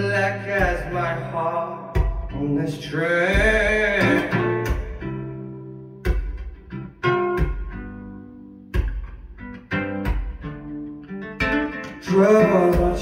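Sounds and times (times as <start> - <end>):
guitar chords ringing: 0.0 - 13.0.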